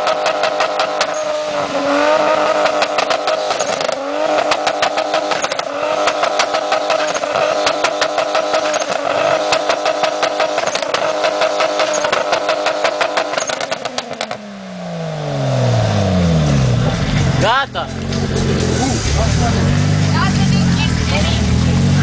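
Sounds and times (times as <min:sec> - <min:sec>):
turbocharged car engine revving: 0:00.0 - 0:22.0.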